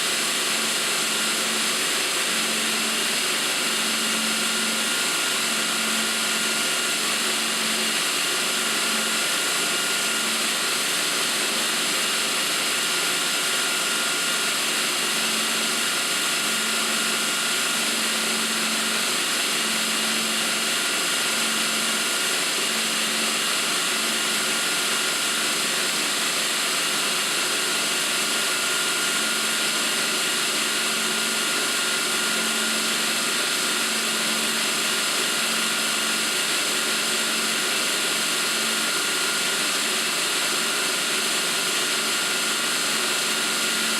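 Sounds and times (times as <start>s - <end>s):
belt grinder hissing and whining: 0.0s - 43.9s.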